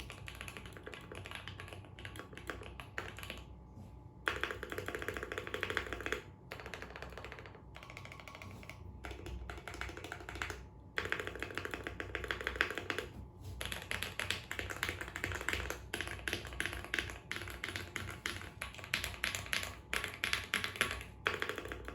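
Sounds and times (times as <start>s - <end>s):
mechanical keyboard typing: 0.0s - 3.5s, 4.2s - 21.9s.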